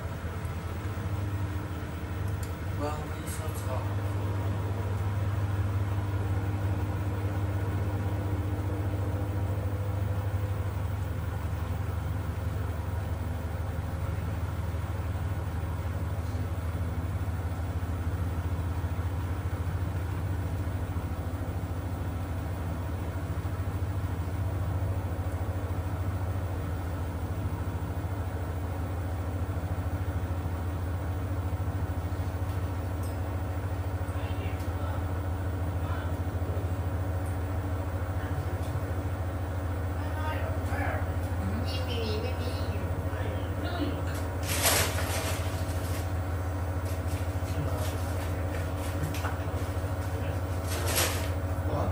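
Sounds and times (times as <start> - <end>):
washing machine humming: 0.0 - 51.9.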